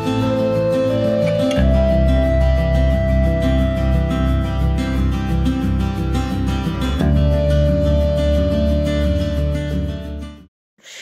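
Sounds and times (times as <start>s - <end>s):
instrumental guitar music: 0.0s - 10.5s.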